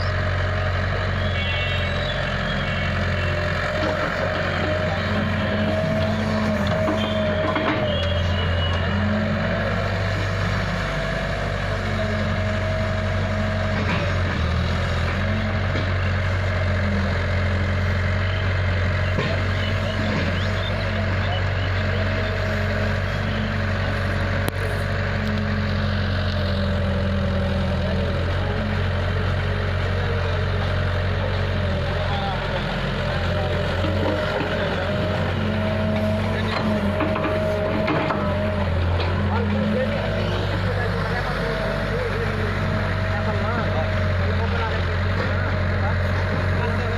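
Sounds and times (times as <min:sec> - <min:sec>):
excavator engine running: 0:00.0 - 0:46.9
tractor diesel engine running: 0:00.0 - 0:46.9.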